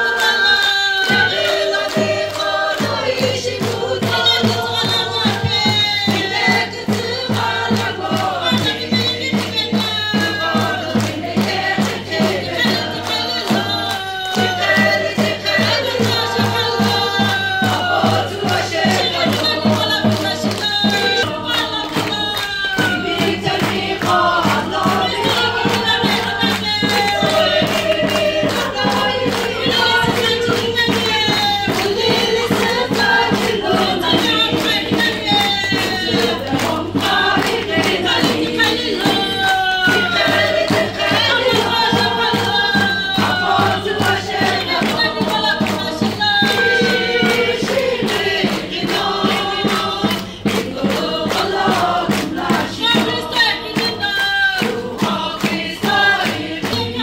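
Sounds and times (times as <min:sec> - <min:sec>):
congregation singing: 0:00.0 - 0:57.0
rhythmic hand-clapping: 0:00.0 - 0:57.0.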